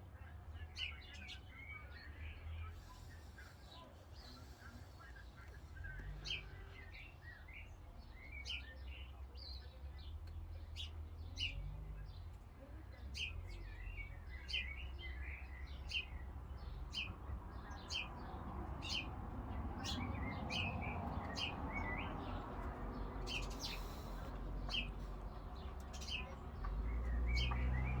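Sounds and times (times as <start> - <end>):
small birds chirping: 0.2 - 28.0.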